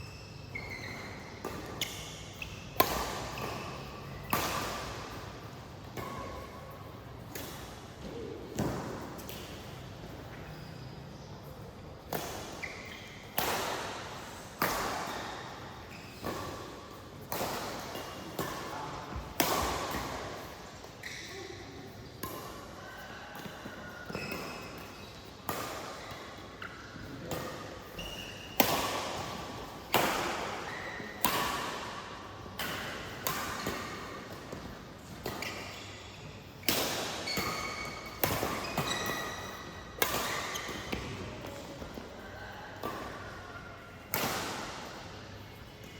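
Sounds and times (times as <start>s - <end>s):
shoes squeaking on court: 0.0s - 31.2s, 32.3s - 42.4s
racket hitting shuttlecock: 0.5s - 9.8s, 12.0s - 21.3s, 23.4s - 42.1s, 42.8s - 45.2s.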